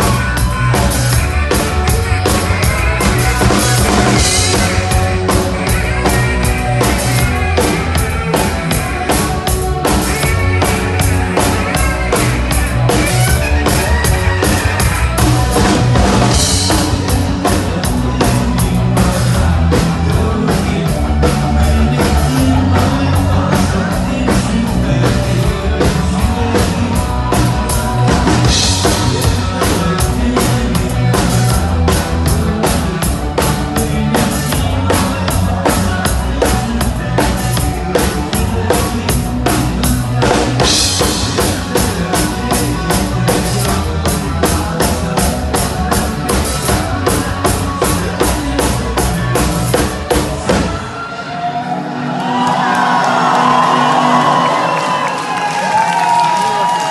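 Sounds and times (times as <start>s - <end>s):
drum kit beat: 0.0s - 50.9s
rock band playing: 0.0s - 56.9s.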